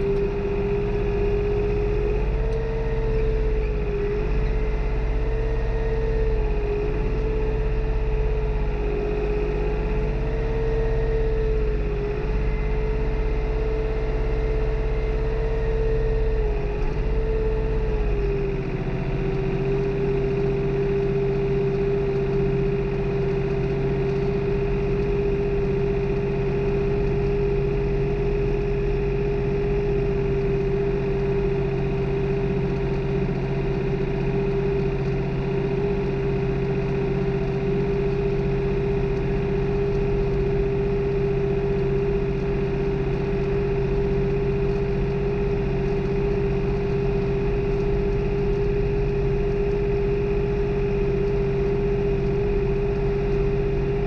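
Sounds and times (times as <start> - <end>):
steady whining tone: 0.0 - 54.0
tractor diesel engine drone: 0.0 - 54.0.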